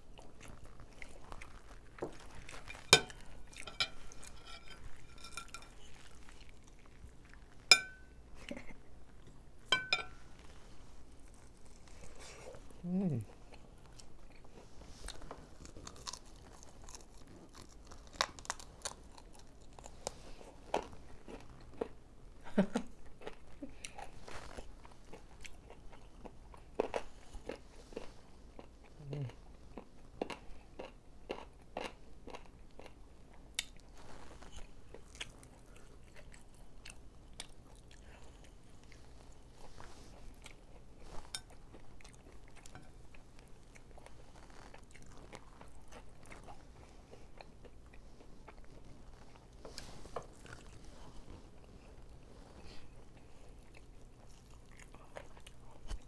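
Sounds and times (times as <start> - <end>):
crunchy chewing: 0.1 - 7.7, 13.4 - 22.0, 23.2 - 56.0.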